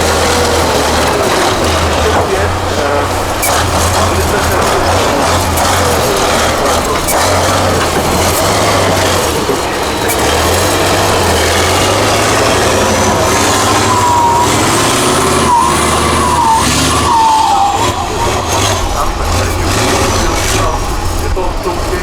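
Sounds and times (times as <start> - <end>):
high wavering whine: 0.0 - 22.0
truck engine under load: 0.0 - 22.0.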